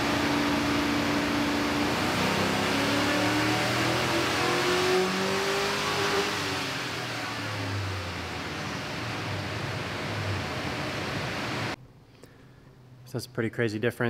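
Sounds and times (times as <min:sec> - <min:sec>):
engine revving at full throttle: 0:00.0 - 0:11.8.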